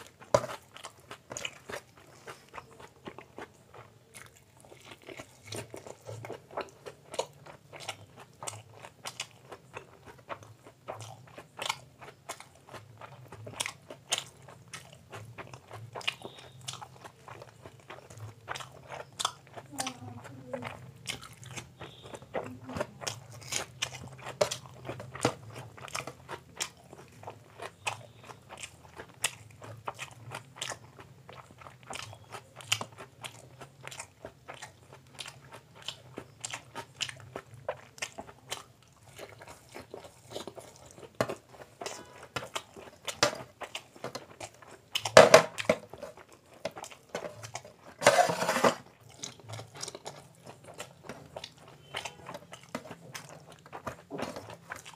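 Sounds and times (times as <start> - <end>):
chewing and wet mouth sounds: 0.0 - 54.9.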